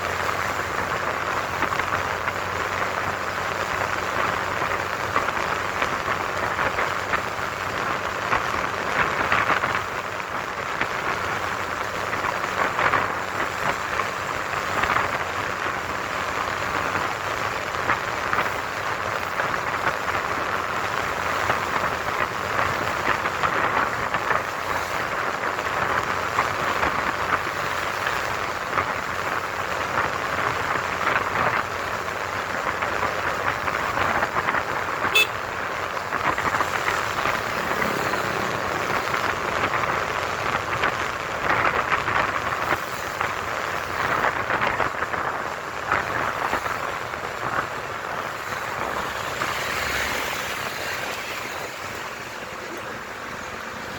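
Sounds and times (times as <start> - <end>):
road noise: 0.0 - 53.9
rushing wind: 0.0 - 53.9.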